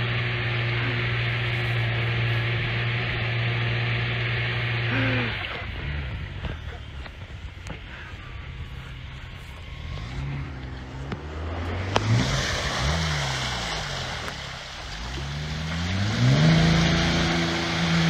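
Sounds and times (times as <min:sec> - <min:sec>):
engine revving hard: 0:00.0 - 0:06.6, 0:09.7 - 0:18.0
tyres churning muddy water: 0:00.0 - 0:18.0.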